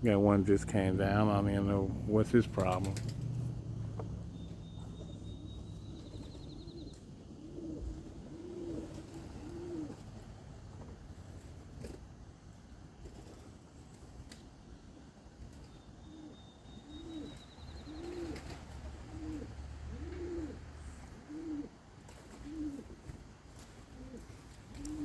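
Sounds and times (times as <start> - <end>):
pigeon cooing: 0.0 - 11.2, 16.0 - 25.0.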